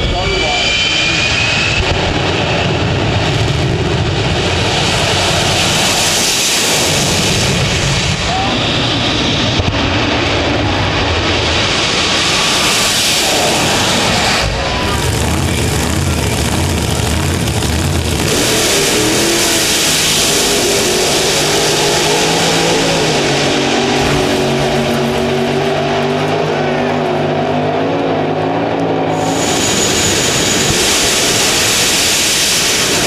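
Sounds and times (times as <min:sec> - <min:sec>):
jet turbine engine roaring: 0:00.0 - 0:33.0.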